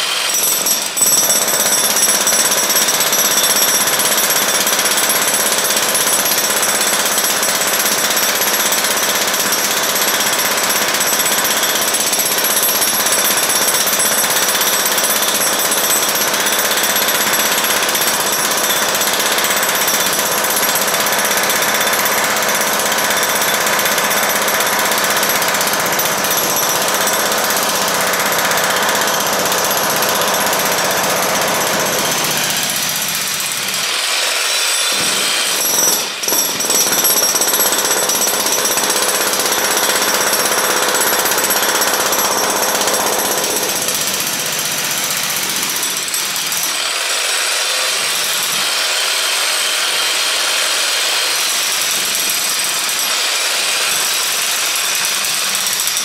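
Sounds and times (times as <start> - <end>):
jackhammer hammering concrete: 0.0 - 56.0.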